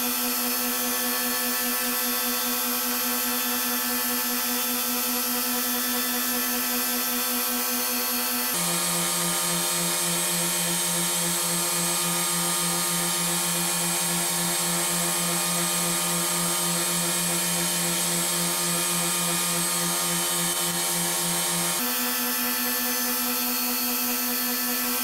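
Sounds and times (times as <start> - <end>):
wood lathe motor humming: 0.0 - 25.0.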